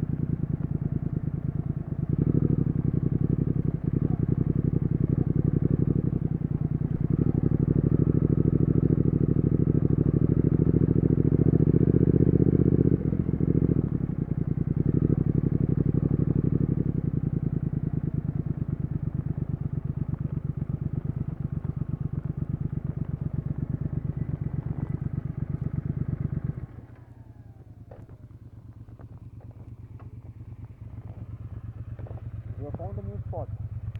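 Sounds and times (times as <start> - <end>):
motorcycle engine exhaust pulsing: 0.0 - 33.9.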